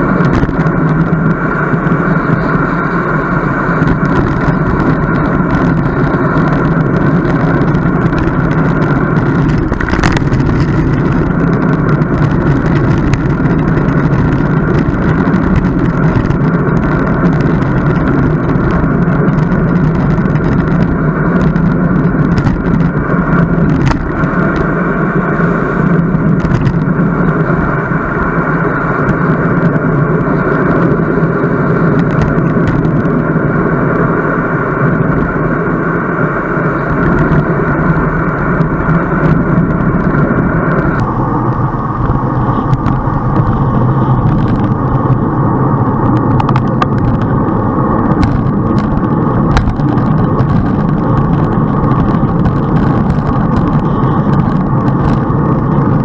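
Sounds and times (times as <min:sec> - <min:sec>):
bicycle road noise: 0:00.0 - 0:56.0
wind noise: 0:00.0 - 0:56.0.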